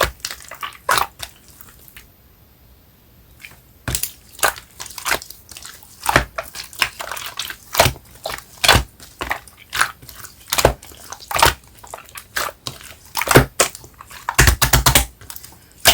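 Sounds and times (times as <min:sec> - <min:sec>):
slime squished by hand: 0:00.0 - 0:02.0, 0:03.4 - 0:15.9.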